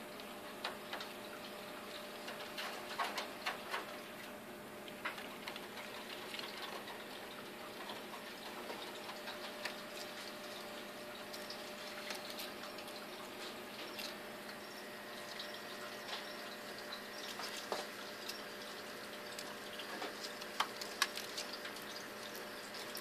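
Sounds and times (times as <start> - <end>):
water pump humming: 0.0 - 23.0.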